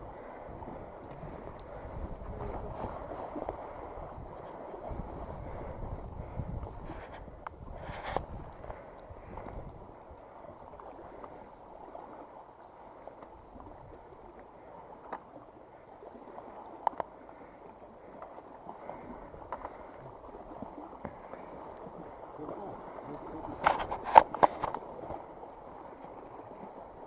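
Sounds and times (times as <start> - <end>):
water lapping against rocks: 0.0 - 27.0.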